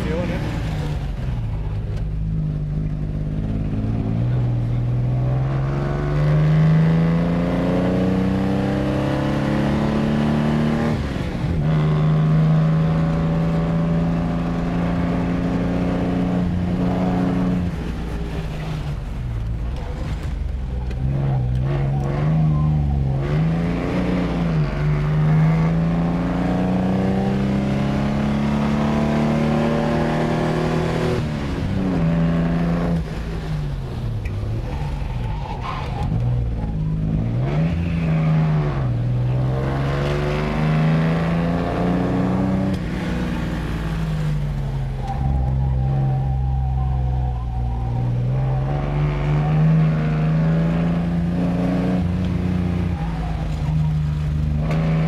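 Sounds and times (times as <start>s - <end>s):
car engine revving uphill: 0.0s - 55.0s.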